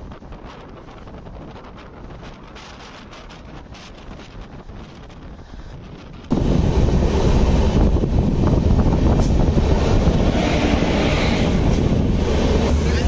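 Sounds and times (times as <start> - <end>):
train wheels rumbling on rails: 0.0 - 13.0
wind on microphone: 0.0 - 13.0.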